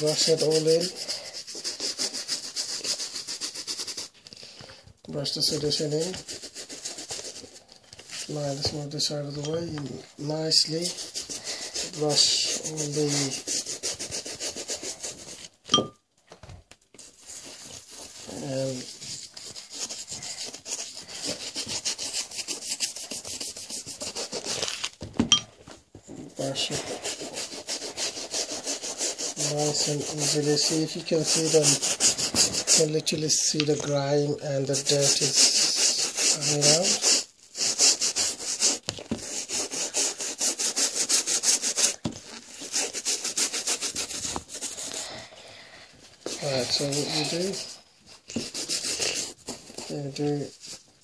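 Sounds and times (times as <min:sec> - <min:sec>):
brush scrubbing wet canvas: 0:00.0 - 0:04.2, 0:05.2 - 0:15.6, 0:17.0 - 0:24.7, 0:26.3 - 0:50.8.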